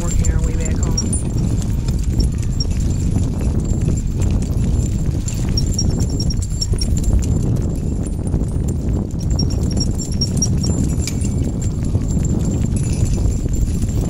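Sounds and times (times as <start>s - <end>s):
dogs trotting: 0.0s - 14.0s
sulky wheels rolling on concrete: 0.0s - 14.0s.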